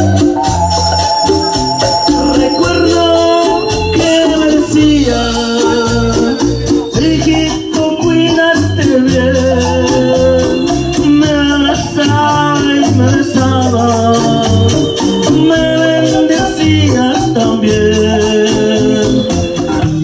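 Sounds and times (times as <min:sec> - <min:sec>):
latin dance music over speakers: 0:00.0 - 0:20.0.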